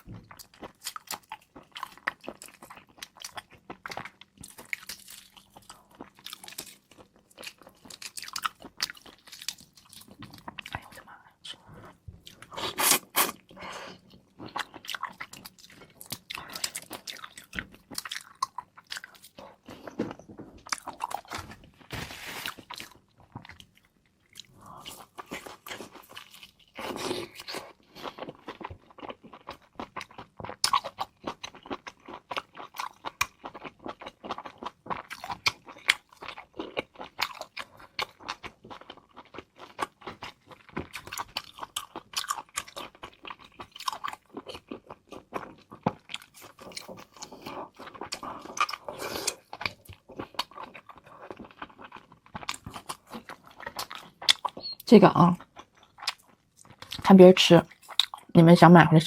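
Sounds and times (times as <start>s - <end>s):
person crunching and chewing: 0.0s - 57.1s, 57.7s - 58.3s.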